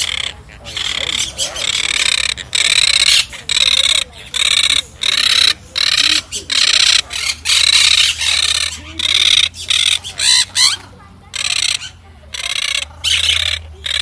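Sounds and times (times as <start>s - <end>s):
parrots screeching: 0.0s - 14.0s.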